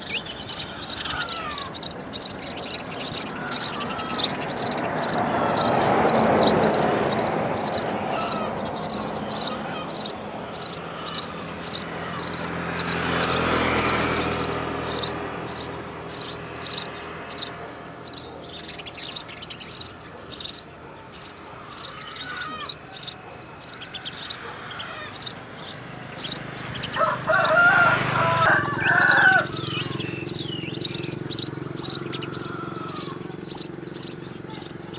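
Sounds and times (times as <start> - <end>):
sparrow chirping: 0.0 - 34.9.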